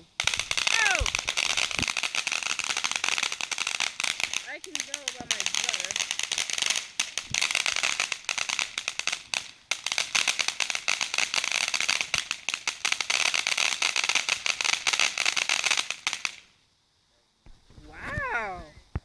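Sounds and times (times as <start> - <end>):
firework crackling: 0.0 - 16.6.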